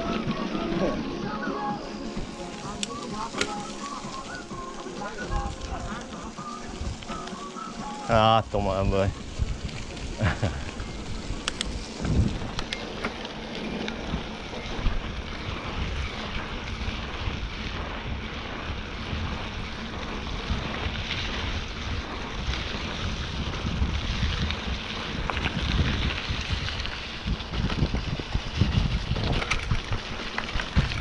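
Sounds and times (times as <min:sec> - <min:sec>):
bike tyres crunching on gravel: 0:00.0 - 0:31.0
wind buffeting microphone: 0:00.0 - 0:31.0.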